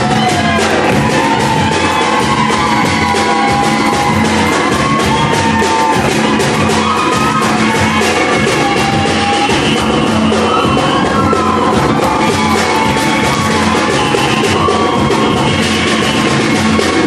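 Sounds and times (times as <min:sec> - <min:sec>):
voices yelling and whooping: 0:00.0 - 0:16.1
samba drums playing fast beat: 0:00.0 - 0:17.0.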